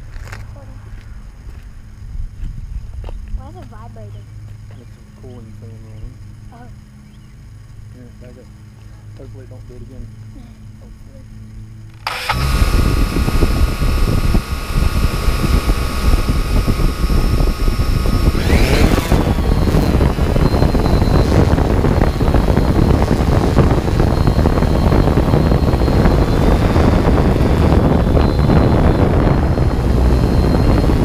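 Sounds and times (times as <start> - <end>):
wind buffeting microphone: 0.0 - 7.3, 12.1 - 31.0
drone propellers whining: 3.4 - 31.0.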